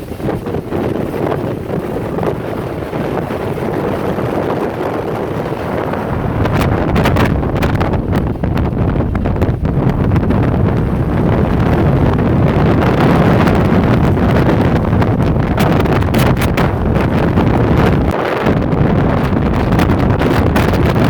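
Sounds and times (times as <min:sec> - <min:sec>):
wind blowing against microphone: 0:00.0 - 0:21.0.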